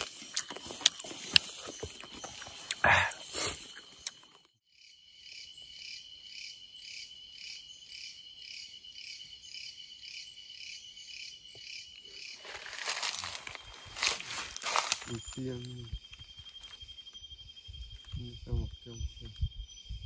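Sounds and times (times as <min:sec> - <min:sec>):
high-pitched insect trill: 0:00.0 - 0:20.0
insects chirping: 0:00.0 - 0:20.0.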